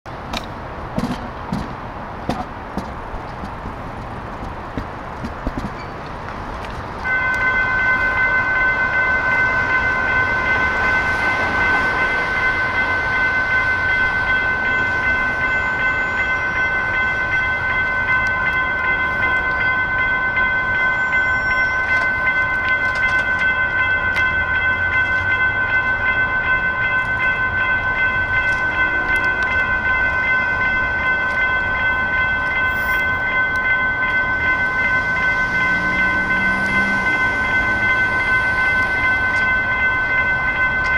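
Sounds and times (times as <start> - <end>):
electronic crossing warning bell: 5.7 - 40.9.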